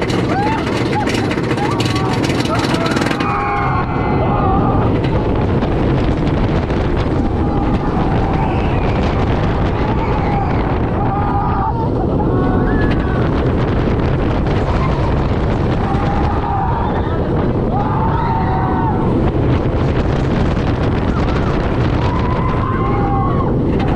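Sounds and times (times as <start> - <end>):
roller coaster train rumbling: 0.0 - 23.9
wind blasting microphone: 0.0 - 23.9.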